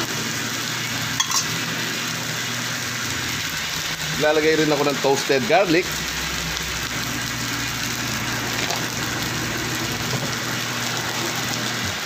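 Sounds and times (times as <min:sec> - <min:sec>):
rice sizzling in a wok: 0:00.0 - 0:12.0.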